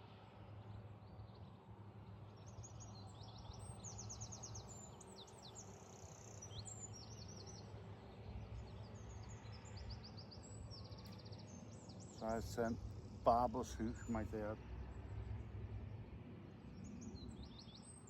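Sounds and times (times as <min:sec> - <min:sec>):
faint low background noise: 0:00.0 - 0:18.0
songbirds chirping and trilling: 0:00.6 - 0:18.0.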